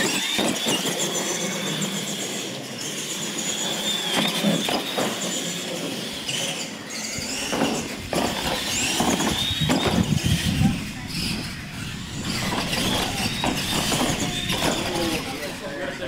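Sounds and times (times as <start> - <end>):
toy truck motors whining: 0.0 - 16.0.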